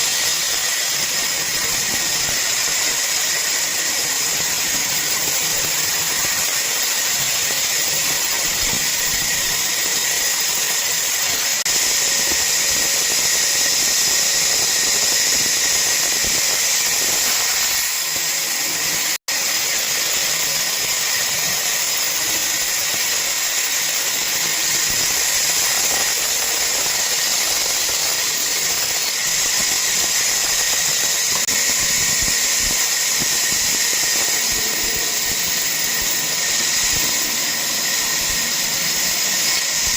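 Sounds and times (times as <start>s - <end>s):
woodworking machine whining: 0.0s - 39.9s.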